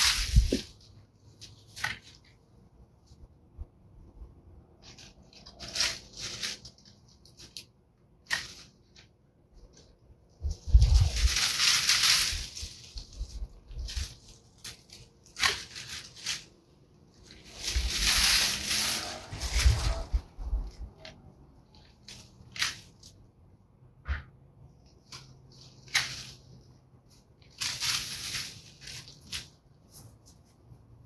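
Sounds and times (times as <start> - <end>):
dry branches and leaves rustling: 0.0 - 3.3, 4.1 - 23.3, 24.7 - 30.8.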